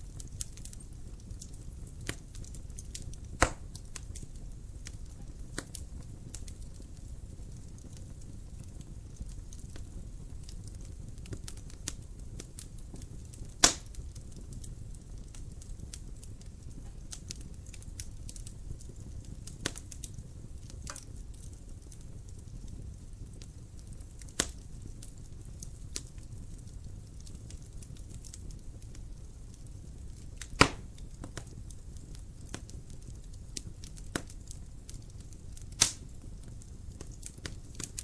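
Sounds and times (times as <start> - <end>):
loud pops from fire: 0.0 - 38.0
wood fire crackling: 0.0 - 38.0.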